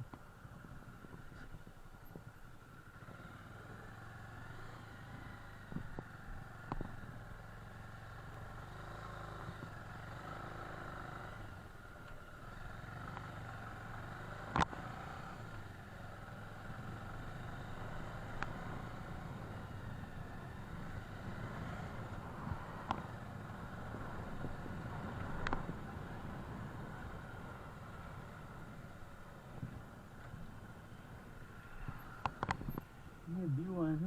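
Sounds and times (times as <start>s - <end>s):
road and wind noise: 0.0s - 34.0s.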